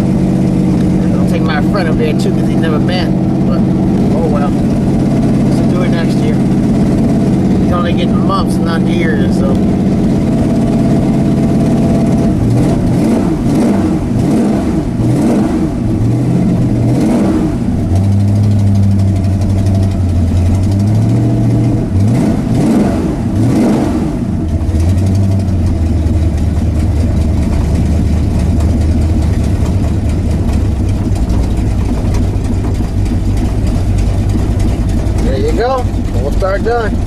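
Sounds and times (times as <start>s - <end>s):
truck engine revving and idling: 0.0s - 37.0s.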